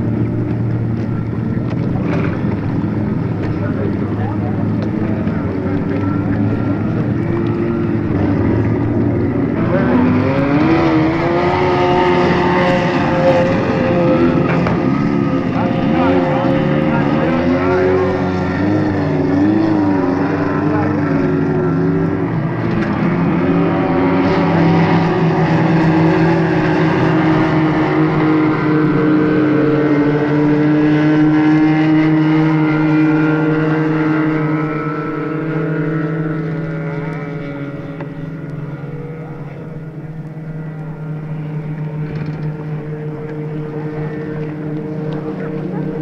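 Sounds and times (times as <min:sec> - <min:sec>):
racing boat engine droning: 0:00.0 - 0:46.0.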